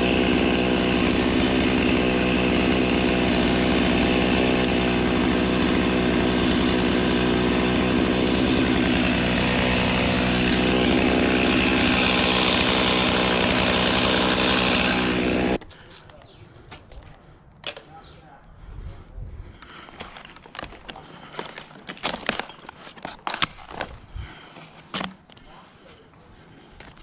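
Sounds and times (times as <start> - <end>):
chainsaw cutting wood: 0.0 - 15.9, 19.6 - 25.4.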